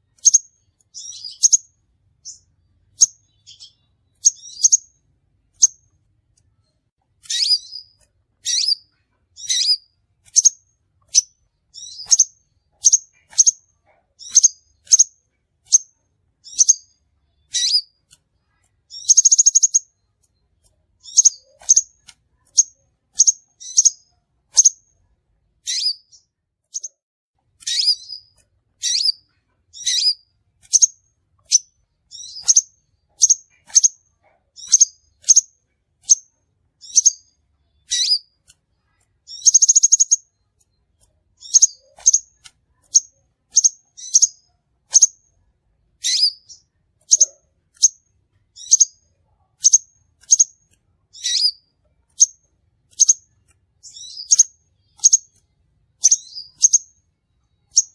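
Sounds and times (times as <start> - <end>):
sunbird high chirps: 0.2 - 5.8, 7.2 - 18.0, 18.9 - 24.8, 25.6 - 27.0, 27.6 - 38.4, 39.3 - 40.4, 41.4 - 45.2, 46.0 - 48.0, 48.6 - 55.4, 56.0 - 57.0, 57.6 - 57.9
buzzy bird trill: 0.2 - 5.9, 7.2 - 20.1, 21.0 - 24.9, 25.6 - 27.0, 27.6 - 38.4, 39.3 - 40.4, 41.4 - 45.2, 46.0 - 48.0, 48.6 - 55.4, 56.0 - 57.0, 57.6 - 57.9.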